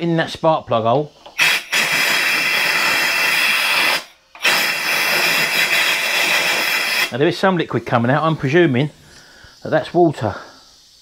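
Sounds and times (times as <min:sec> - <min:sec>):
compressed air hissing from blow gun: 0:01.1 - 0:07.2, 0:08.2 - 0:11.0.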